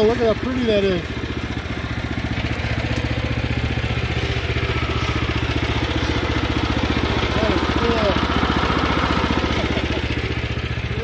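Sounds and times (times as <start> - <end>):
gasoline engine idling: 0.0 - 11.0.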